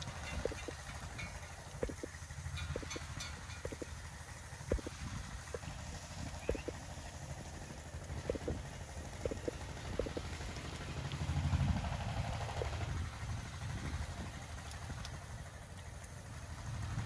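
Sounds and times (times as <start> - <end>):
furnace low rumble: 0.0 - 17.0.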